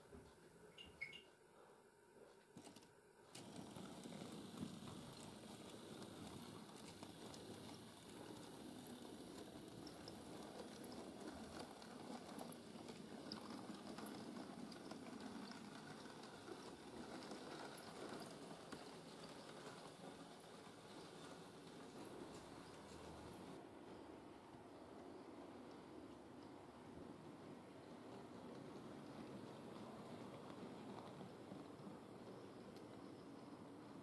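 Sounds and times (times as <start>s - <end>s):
model train rumbling on track: 3.3s - 34.0s.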